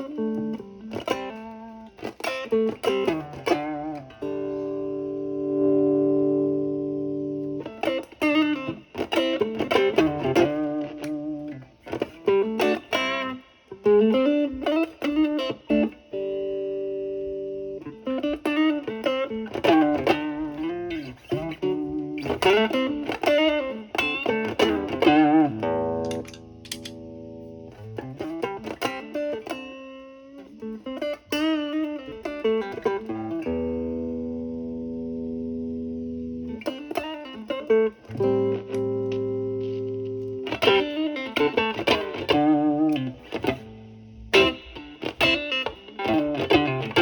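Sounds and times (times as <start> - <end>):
electric guitar blues licks: 0.0 - 47.0
electric guitar chords ringing: 0.0 - 47.0.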